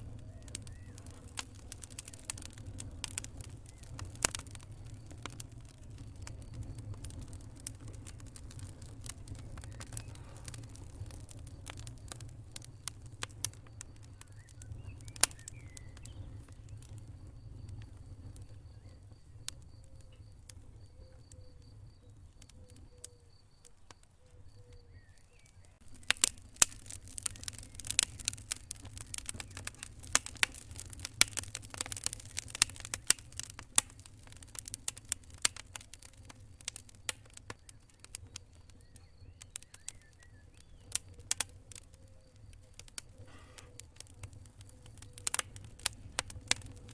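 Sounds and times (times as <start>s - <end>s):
low rumble of burning fire: 0.0s - 46.9s
wood fire crackling: 0.0s - 46.9s.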